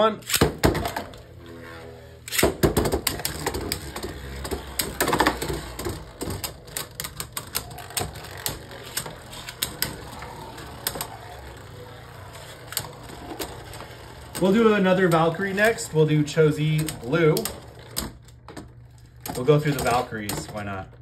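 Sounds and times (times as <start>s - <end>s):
plastic spinning tops clashing: 0.0s - 21.0s.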